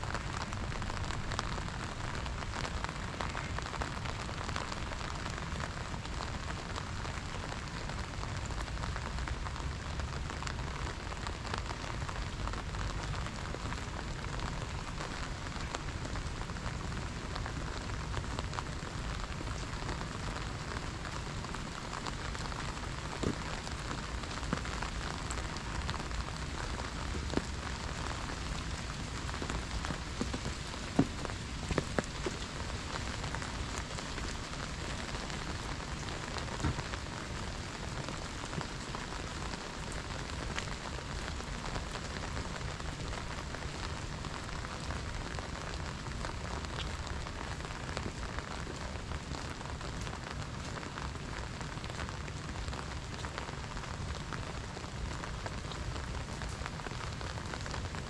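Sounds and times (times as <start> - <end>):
rain on stone paving: 0.0 - 58.0.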